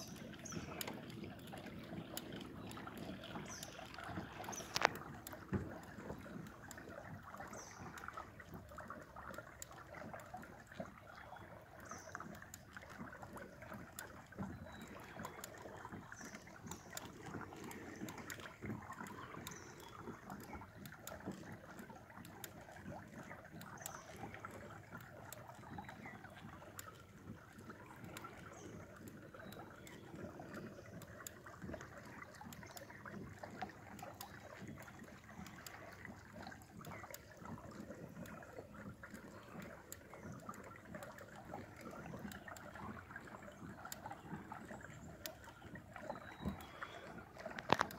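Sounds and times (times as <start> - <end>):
water washing against hull: 0.0 - 47.9.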